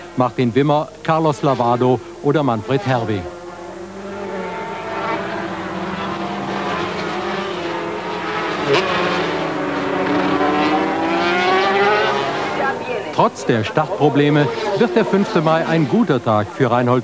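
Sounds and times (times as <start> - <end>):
racing motorcycle engine revving: 1.0 - 16.7.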